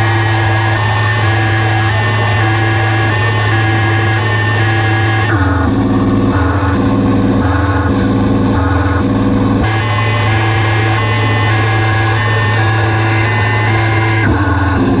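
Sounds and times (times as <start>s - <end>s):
loud electronic drone: 0.0s - 15.0s
steady low hum: 0.0s - 15.0s.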